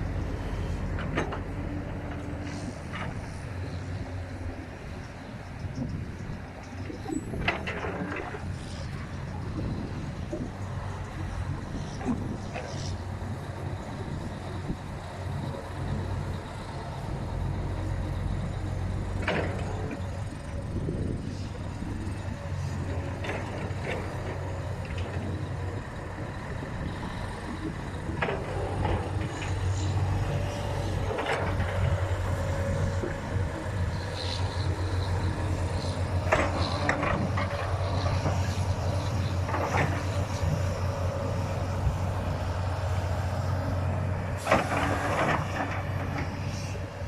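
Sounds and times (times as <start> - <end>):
heavy diesel machinery droning: 0.0 - 47.0.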